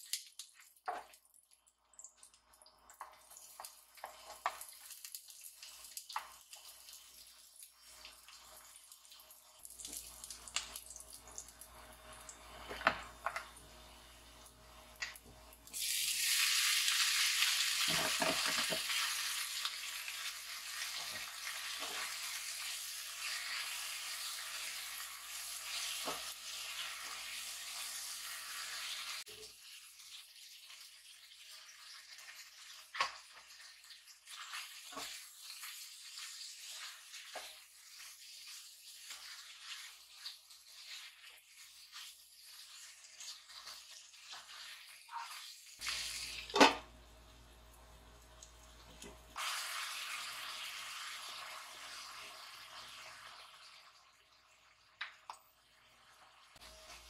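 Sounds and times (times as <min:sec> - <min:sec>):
food sizzling in a pan: 0:00.0 - 0:57.0.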